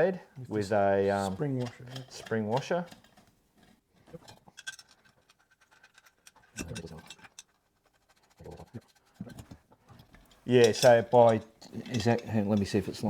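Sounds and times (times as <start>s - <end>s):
metal bolts clicking and scraping: 0.6s - 8.1s, 8.9s - 13.0s.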